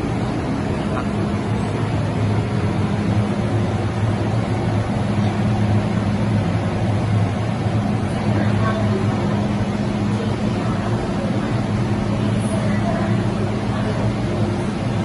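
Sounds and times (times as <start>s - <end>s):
station noise: 0.0s - 15.0s
train humming and rumbling: 0.0s - 15.0s.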